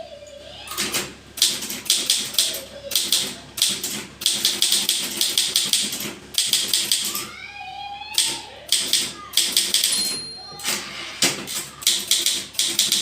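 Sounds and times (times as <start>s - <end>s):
manual typewriter typing: 0.8s - 7.3s, 8.2s - 13.0s.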